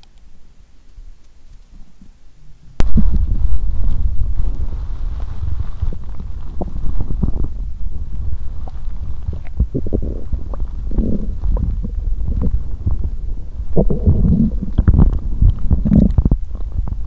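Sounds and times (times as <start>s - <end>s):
stomach gurgling: 2.8s - 17.0s.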